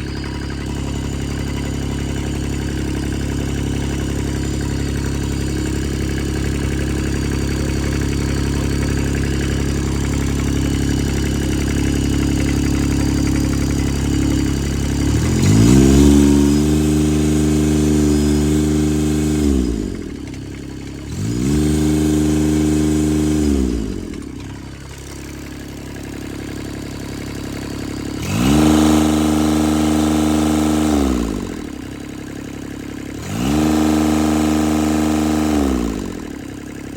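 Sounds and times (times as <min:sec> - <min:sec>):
mower engine idling and revving: 0:00.0 - 0:36.9.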